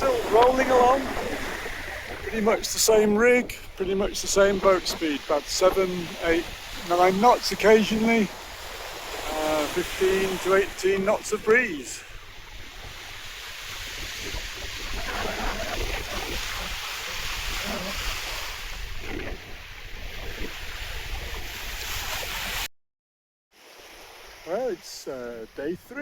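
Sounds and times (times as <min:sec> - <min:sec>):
wind on microphone: 0:00.0 - 0:11.0, 0:12.0 - 0:22.7
sea rushing past hull: 0:00.0 - 0:22.7, 0:23.6 - 0:26.0.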